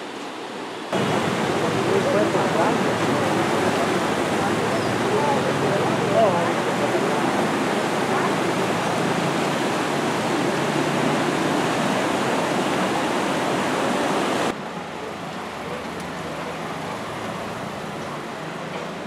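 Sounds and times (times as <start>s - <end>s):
flooded river rushing: 0.0s - 19.0s.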